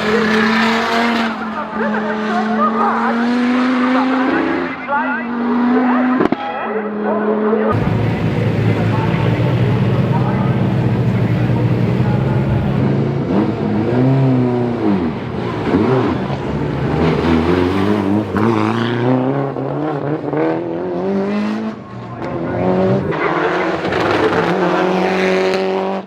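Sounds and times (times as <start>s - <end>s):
car engine revving: 0.0s - 6.0s, 7.7s - 26.0s.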